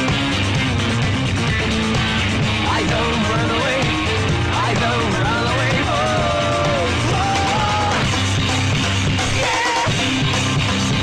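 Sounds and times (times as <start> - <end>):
rock music with guitar: 0.0 - 11.0.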